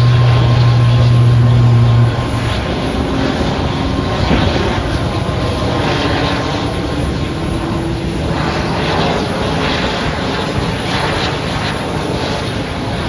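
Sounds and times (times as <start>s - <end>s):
airliner engines rushing: 0.0s - 13.0s
faint steady tones: 0.0s - 13.0s.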